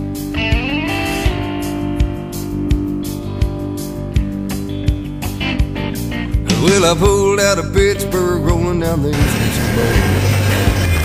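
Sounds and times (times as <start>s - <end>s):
country guitar: 0.0s - 11.0s
steady drum beat: 1.3s - 11.0s.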